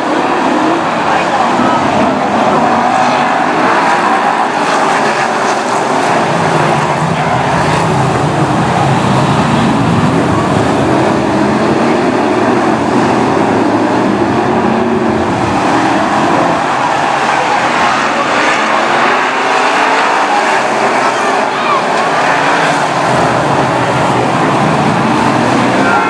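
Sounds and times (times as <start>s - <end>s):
race car engines revving: 0.0s - 26.0s.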